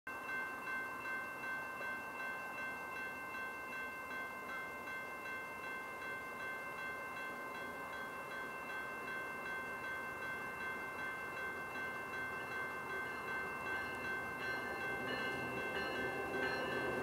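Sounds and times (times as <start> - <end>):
railroad crossing bell ringing: 0.1 - 17.0.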